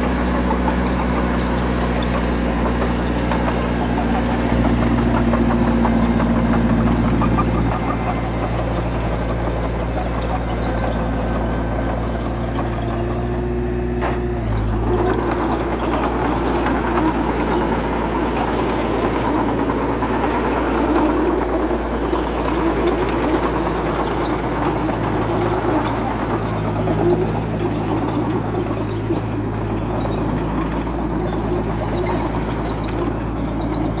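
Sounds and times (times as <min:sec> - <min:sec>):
diesel engine humming: 0:00.0 - 0:34.0.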